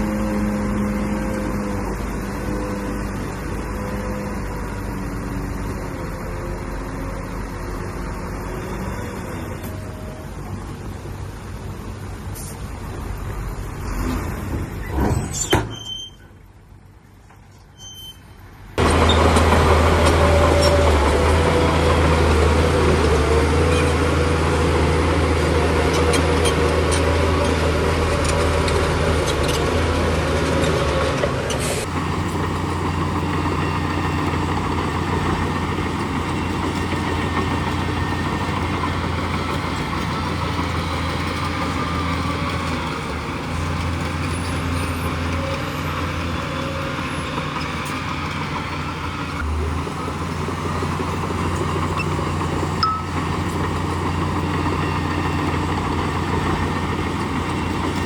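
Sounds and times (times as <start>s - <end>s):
heavy diesel engine humming: 0.0s - 13.8s, 18.8s - 58.0s.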